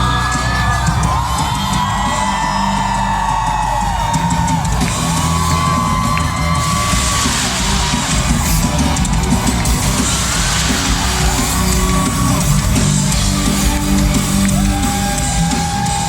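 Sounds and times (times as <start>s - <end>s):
heavy metal drums and bass: 0.0s - 16.0s.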